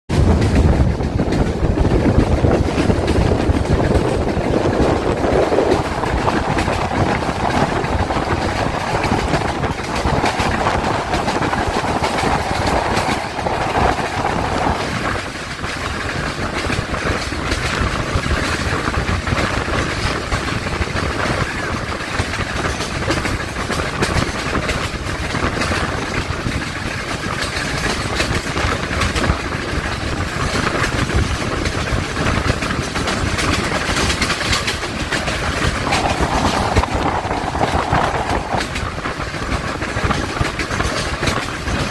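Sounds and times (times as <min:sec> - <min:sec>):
diesel locomotive engine hum: 0:00.1 - 0:41.9
train wheels clattering over rail joints: 0:00.1 - 0:41.9.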